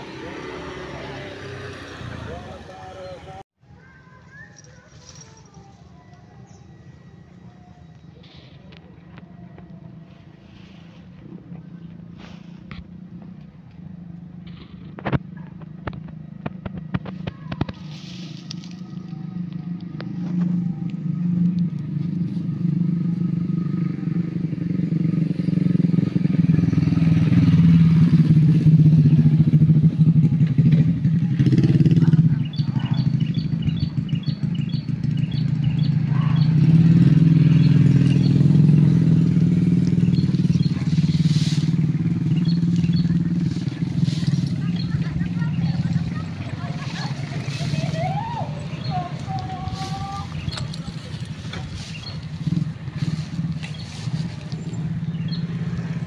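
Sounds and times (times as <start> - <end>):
engine running: 0.0 - 3.4, 4.6 - 56.0.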